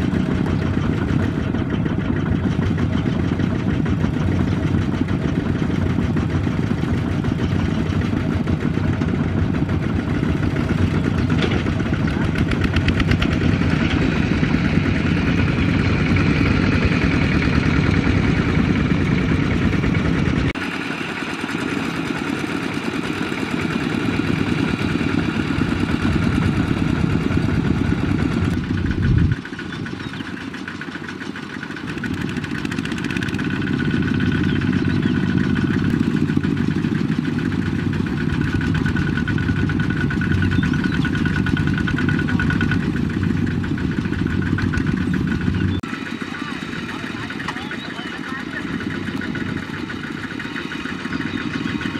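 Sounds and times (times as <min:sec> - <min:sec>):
diesel tractor engine running: 0:00.0 - 0:51.9.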